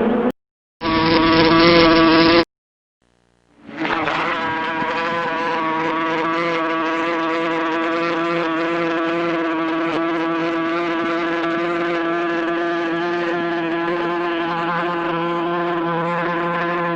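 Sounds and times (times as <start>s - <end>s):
bee buzzing: 0.8s - 2.5s, 3.6s - 16.9s.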